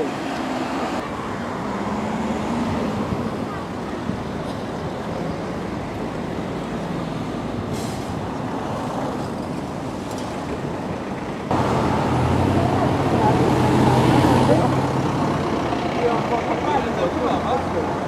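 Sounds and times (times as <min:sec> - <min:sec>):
low rumble of vehicle noise: 0:00.0 - 0:18.0.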